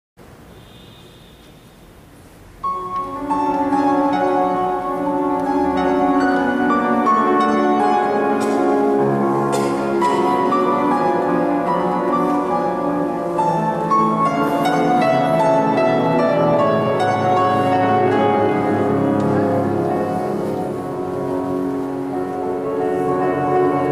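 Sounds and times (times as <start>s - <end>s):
grand piano playing fast piece: 2.6s - 23.9s.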